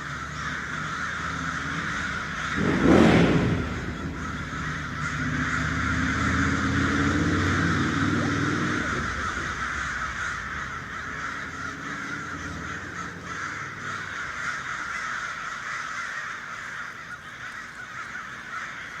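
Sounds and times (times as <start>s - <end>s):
flock of birds calling: 0.0s - 19.0s.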